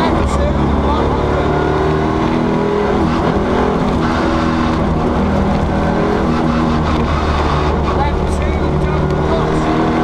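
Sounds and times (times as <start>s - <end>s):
car engine running hard: 0.0s - 10.0s
tyre and road noise: 0.0s - 10.0s.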